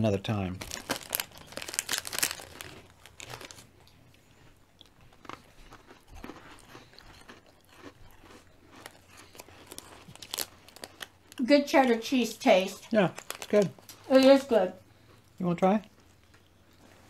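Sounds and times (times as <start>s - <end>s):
people chewing crunchy biscuits: 0.6s - 17.0s.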